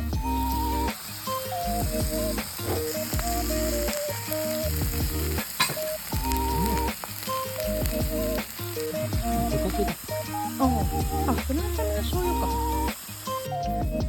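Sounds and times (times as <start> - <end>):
crackling hiss: 0.0 - 14.0
light background music: 0.0 - 14.0.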